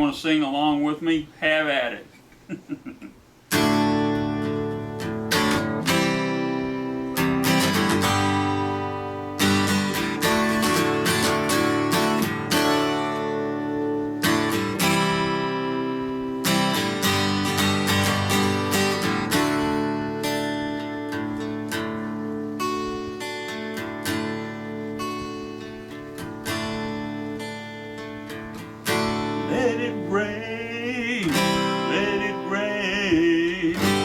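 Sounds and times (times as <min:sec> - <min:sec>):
acoustic guitar strumming chords: 0:02.8 - 0:34.0.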